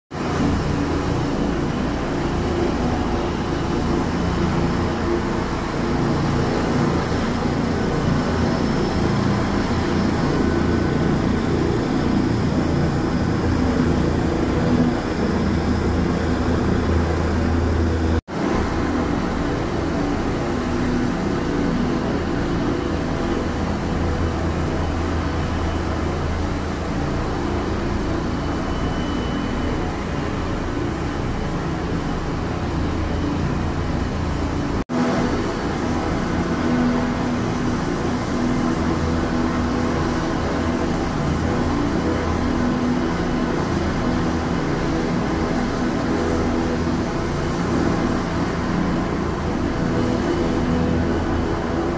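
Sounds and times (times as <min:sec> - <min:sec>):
helicopter engine and rotor: 0:00.2 - 0:51.9.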